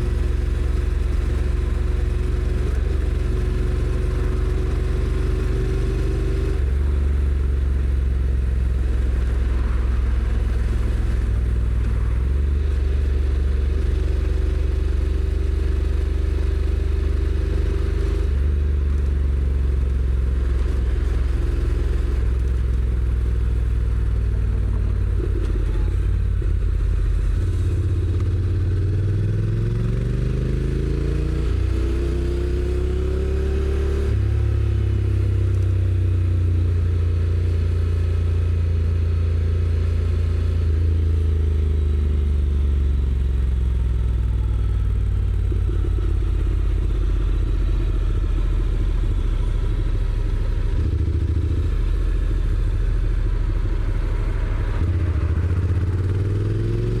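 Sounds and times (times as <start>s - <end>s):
motorcycle engine: 0.0s - 38.8s, 42.4s - 57.0s.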